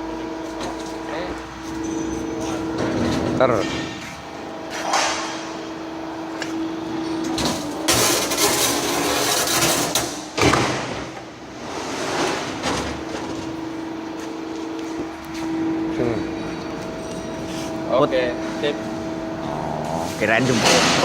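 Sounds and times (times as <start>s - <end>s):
hydraulic pump humming: 0.0s - 10.4s, 12.5s - 21.0s.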